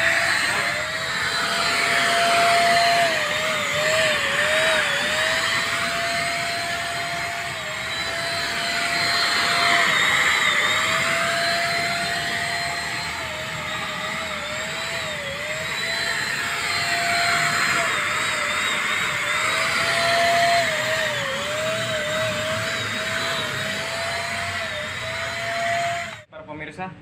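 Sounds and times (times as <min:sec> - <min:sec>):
spray gun motor whine: 0:00.0 - 0:26.3.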